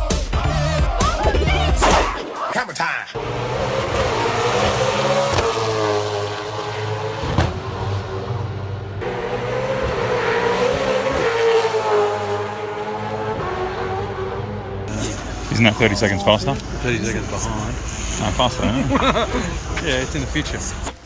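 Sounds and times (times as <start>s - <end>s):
race car engines revving: 3.2s - 21.0s.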